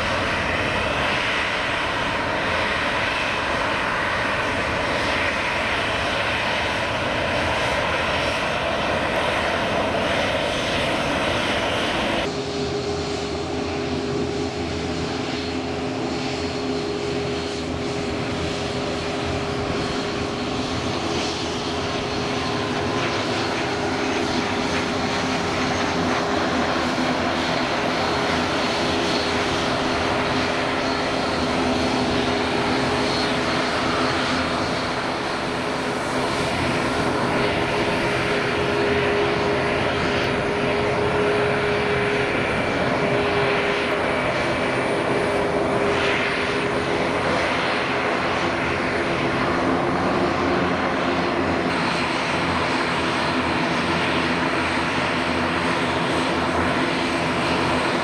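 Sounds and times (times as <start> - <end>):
airliner engines droning: 0.0 - 58.0.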